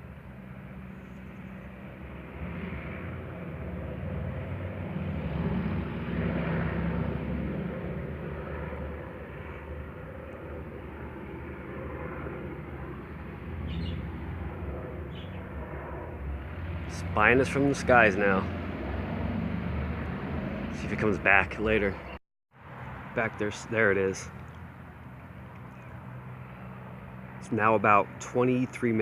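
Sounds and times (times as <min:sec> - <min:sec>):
helicopter flying over: 0:00.0 - 0:29.0.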